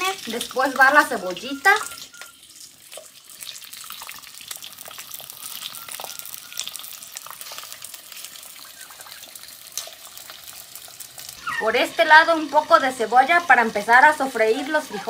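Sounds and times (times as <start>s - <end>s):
steak sizzling in oil: 0.0s - 15.0s.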